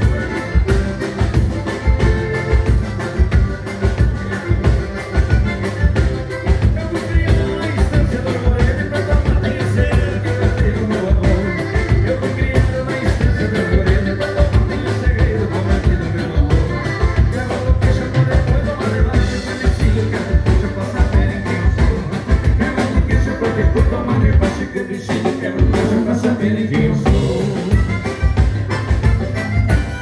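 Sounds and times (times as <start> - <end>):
live dance band playing: 0.0 - 30.0.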